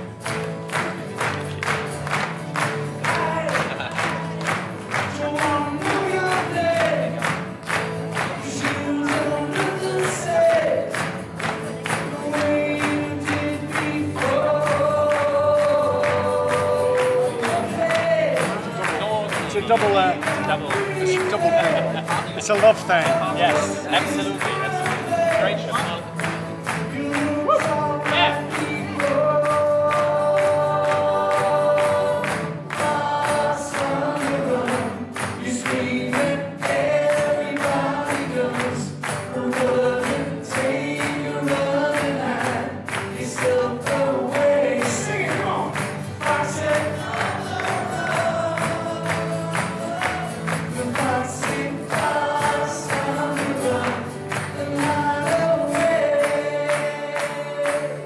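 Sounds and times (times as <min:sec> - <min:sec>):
strummed acoustic guitars: 0:00.0 - 0:58.0
male voices singing in harmony: 0:03.0 - 0:11.2, 0:11.8 - 0:26.0, 0:26.7 - 0:58.0.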